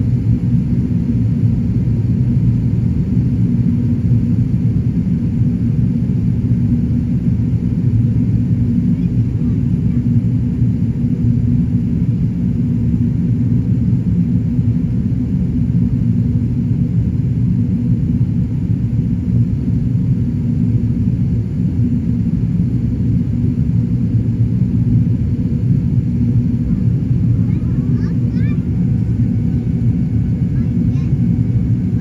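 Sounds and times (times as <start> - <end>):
airplane engine rumble in flight: 0.0 - 32.0.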